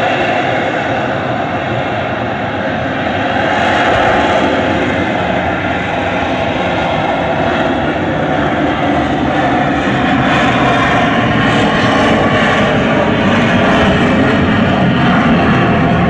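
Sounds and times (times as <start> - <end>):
jet engine rush in flight: 0.0 - 16.0.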